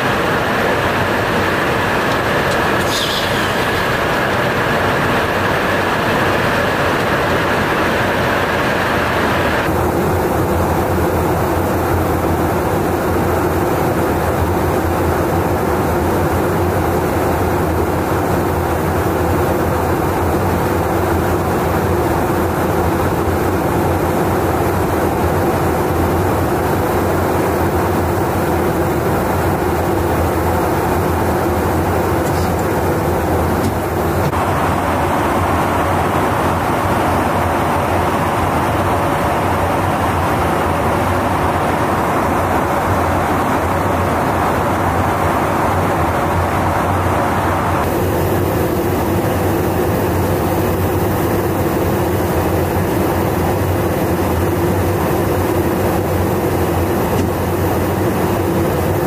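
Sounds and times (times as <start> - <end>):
airflow and engine rush: 0.0 - 59.0
high steady whine: 0.0 - 59.0.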